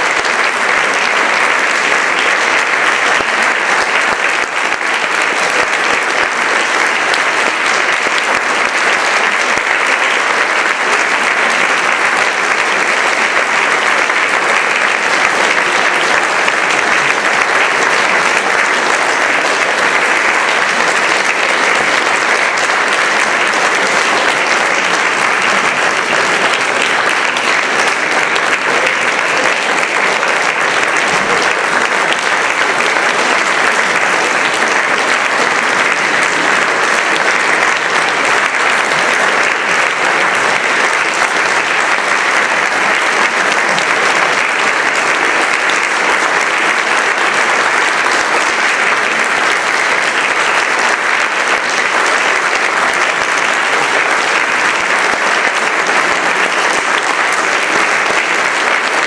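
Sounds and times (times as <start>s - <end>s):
audience applause: 0.0s - 59.0s.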